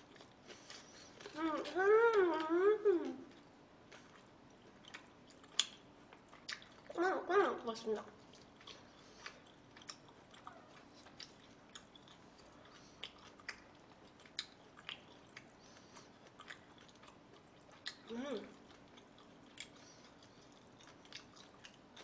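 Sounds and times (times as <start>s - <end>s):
close-miked chewing: 0.0s - 7.0s, 7.6s - 22.0s.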